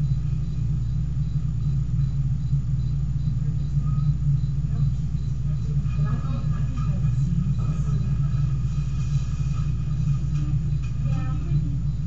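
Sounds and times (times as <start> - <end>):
low rumble of room noise: 0.0 - 12.0.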